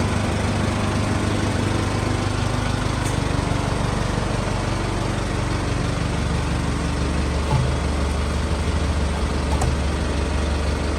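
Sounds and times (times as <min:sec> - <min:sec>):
vehicle engine idling: 0:00.0 - 0:10.9.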